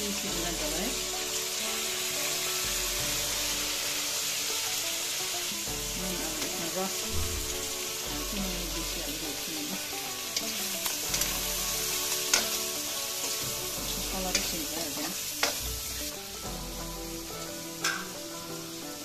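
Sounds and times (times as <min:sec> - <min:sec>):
food sizzling in a pan: 0:00.0 - 0:19.0
spoon clanking against pan: 0:00.5 - 0:18.7.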